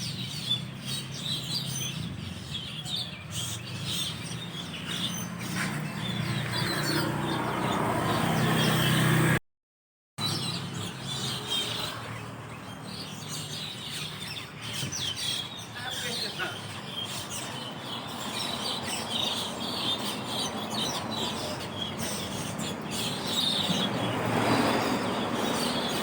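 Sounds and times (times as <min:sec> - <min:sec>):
starlings chattering: 0:00.0 - 0:09.4, 0:10.2 - 0:26.0.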